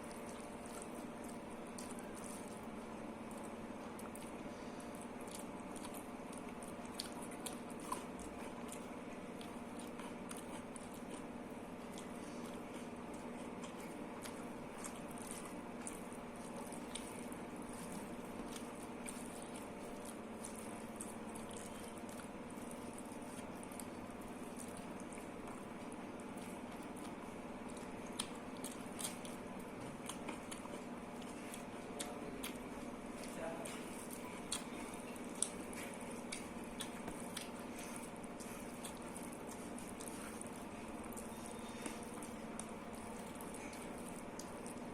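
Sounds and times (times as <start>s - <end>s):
cucumber crunching: 0.0s - 44.9s
steady low hum: 0.0s - 44.9s
wet chewing: 0.0s - 44.9s.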